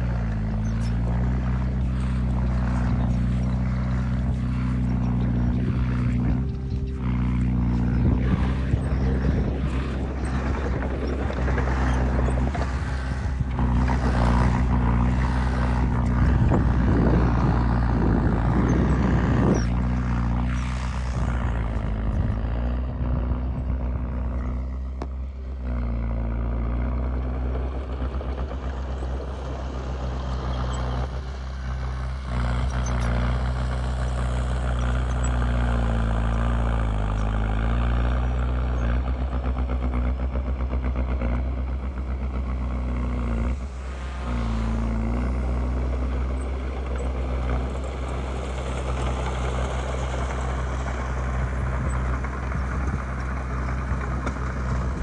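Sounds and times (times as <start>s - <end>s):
heavy diesel engine running: 0.0s - 55.0s
machinery clattering and rumbling: 0.0s - 55.0s.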